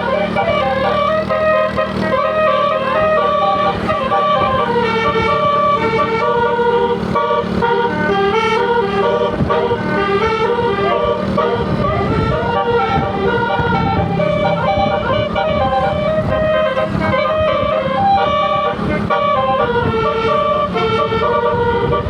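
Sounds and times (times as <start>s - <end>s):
bus musical horn melody: 0.0s - 22.0s.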